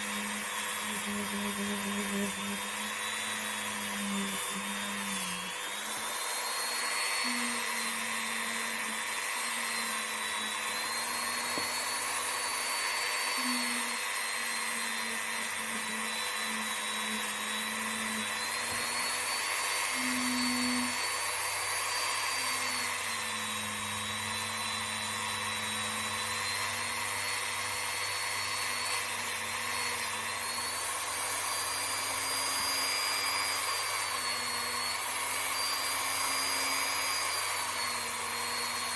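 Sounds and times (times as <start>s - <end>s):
rotary tool whining: 0.0s - 38.9s.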